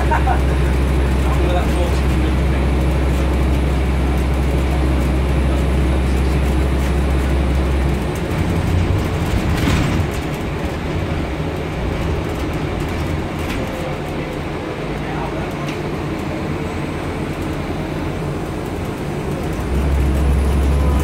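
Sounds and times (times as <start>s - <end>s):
bus engine hum: 0.0s - 21.0s.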